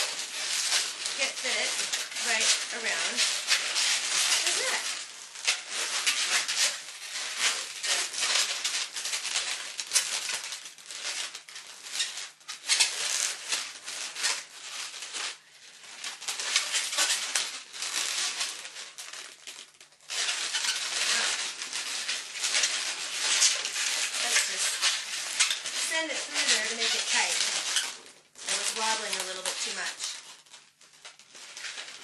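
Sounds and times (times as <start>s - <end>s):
balloons rubbing and crinkling: 0.0s - 32.0s.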